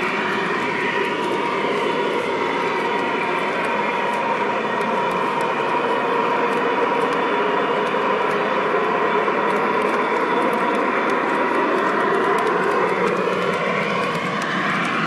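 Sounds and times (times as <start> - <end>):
wheels clicking on rails: 0.0 - 15.0.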